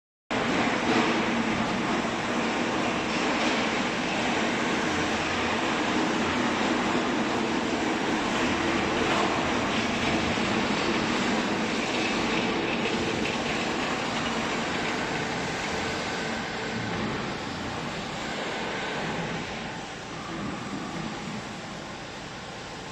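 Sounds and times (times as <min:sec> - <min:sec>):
hydraulic press drone: 0:00.3 - 0:22.9.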